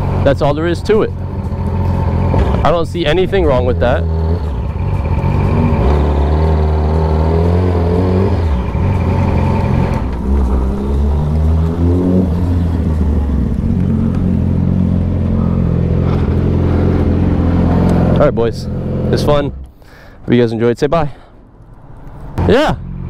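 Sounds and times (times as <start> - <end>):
vehicle engine accelerating: 0.0 - 20.0.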